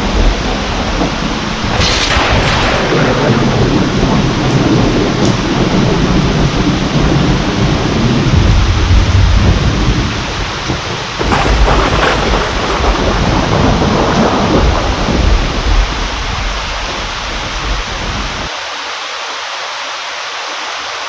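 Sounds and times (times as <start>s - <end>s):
sharp thunderclap: 0.0s - 18.4s
rolling thunder: 0.0s - 18.5s
steady rain: 0.0s - 21.0s.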